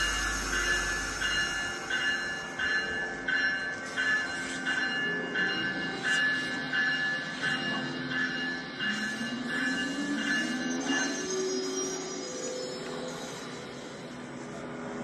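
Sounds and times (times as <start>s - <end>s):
locomotive bell ringing: 0.0s - 13.6s.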